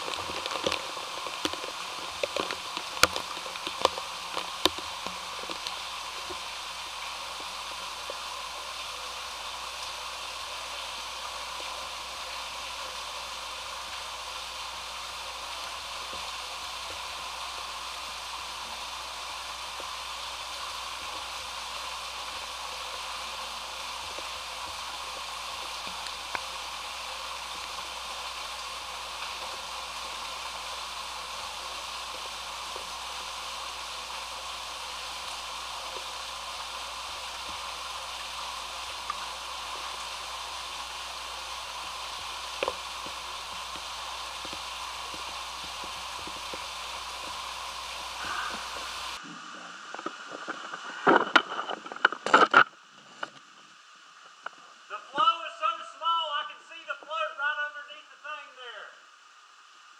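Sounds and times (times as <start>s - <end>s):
water rushing in drain pipe: 0.0s - 53.4s.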